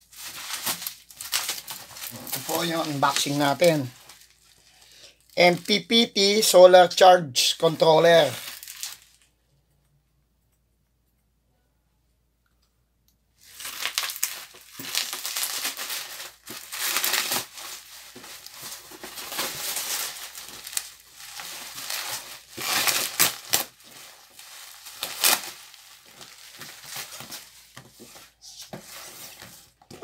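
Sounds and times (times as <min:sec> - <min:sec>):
bubble wrap rustling and crackling: 0:00.0 - 0:06.5, 0:07.4 - 0:09.4, 0:13.4 - 0:30.0.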